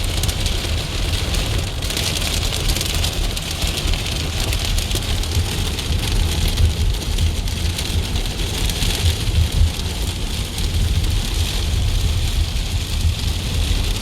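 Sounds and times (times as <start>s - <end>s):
car low rumble: 0.0s - 14.0s
heavy rain and hail on car roof: 0.0s - 14.0s.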